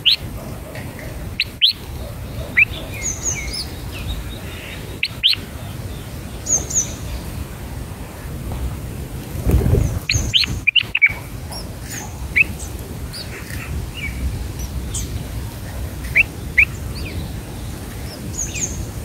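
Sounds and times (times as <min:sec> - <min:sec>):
bird chirping: 0:00.0 - 0:07.5, 0:09.7 - 0:19.0.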